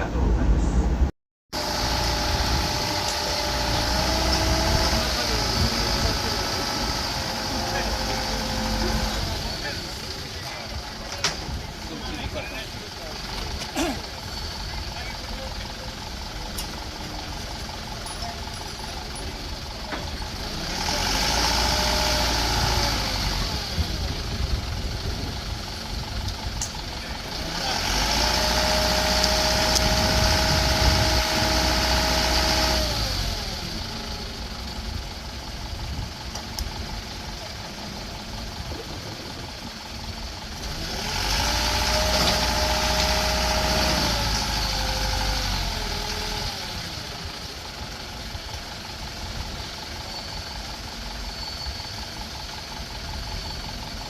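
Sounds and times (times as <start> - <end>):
vehicle whine: 0.0 - 54.0.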